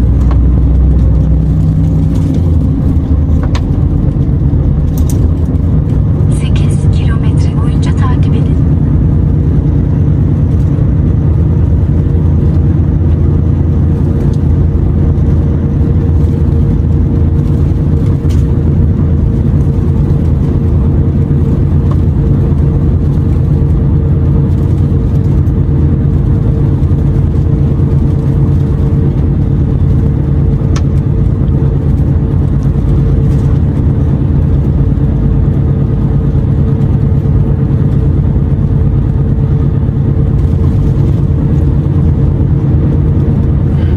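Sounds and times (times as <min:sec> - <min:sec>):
road rumble: 0:00.0 - 0:43.9
truck diesel engine drone: 0:00.0 - 0:43.9.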